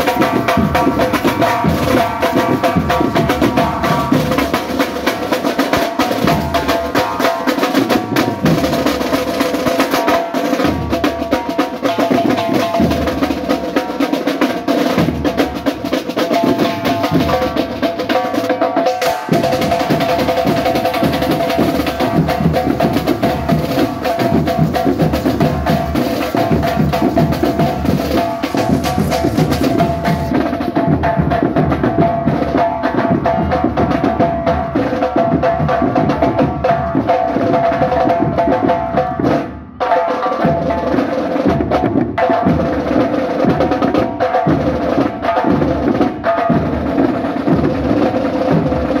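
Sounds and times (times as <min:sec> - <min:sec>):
snare drumline playing fast rhythm: 0:00.0 - 0:49.0.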